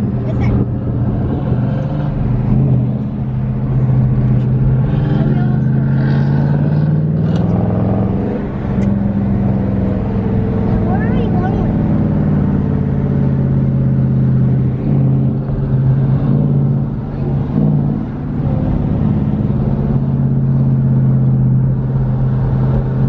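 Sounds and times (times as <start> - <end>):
car engine and exhaust droning: 0.0 - 23.0.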